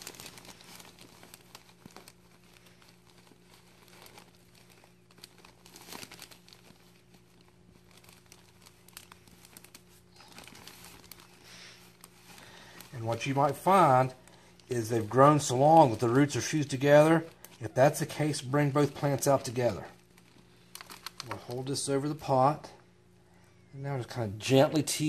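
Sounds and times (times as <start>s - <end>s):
plastic bag crinkling: 0.0s - 22.7s
low steady hum: 0.0s - 25.0s.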